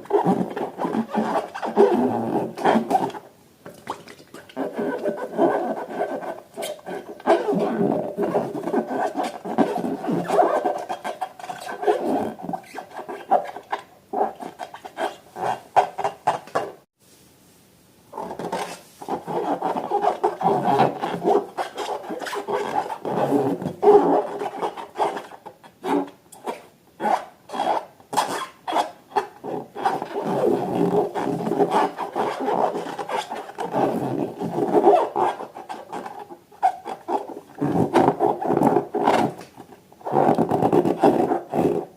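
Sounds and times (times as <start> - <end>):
balloons squeaking when rubbed: 0.0 - 3.2, 4.3 - 16.7, 18.1 - 41.9.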